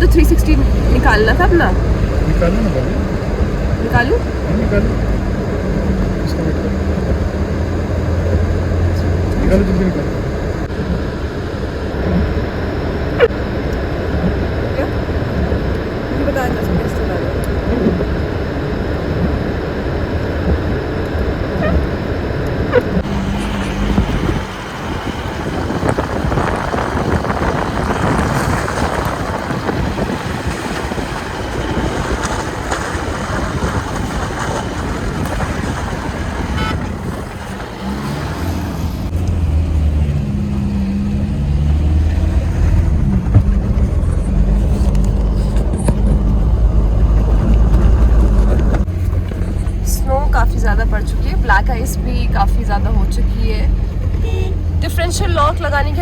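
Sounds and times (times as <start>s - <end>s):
diesel engine running: 0.0s - 56.0s
low steady engine hum: 0.0s - 56.0s
tyre and road noise: 0.0s - 56.0s.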